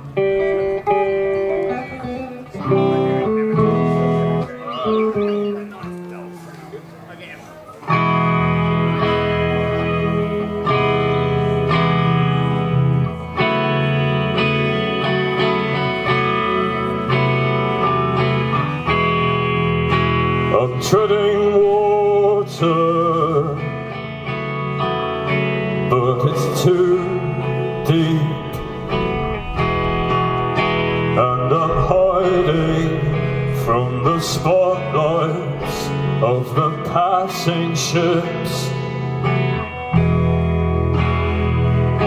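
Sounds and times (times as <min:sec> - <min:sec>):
live band playing: 0:00.0 - 0:20.8, 0:23.4 - 0:42.0.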